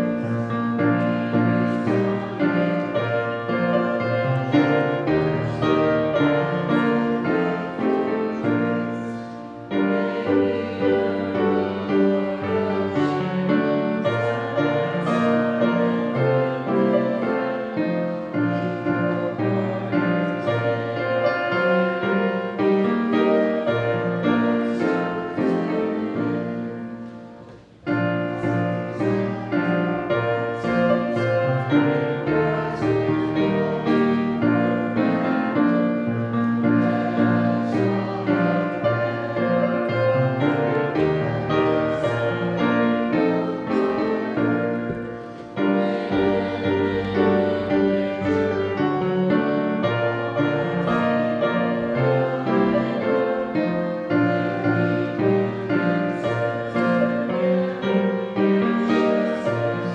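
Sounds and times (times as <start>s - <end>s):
congregation singing a hymn: 0.0s - 59.9s
piano accompaniment: 0.0s - 59.9s.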